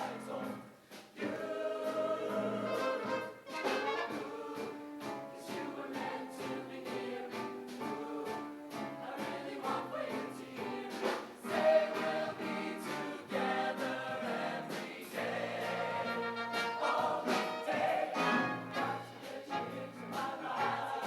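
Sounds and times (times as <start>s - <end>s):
choir singing in harmony: 0.0s - 21.0s
instrumental accompaniment with beat: 0.0s - 21.0s.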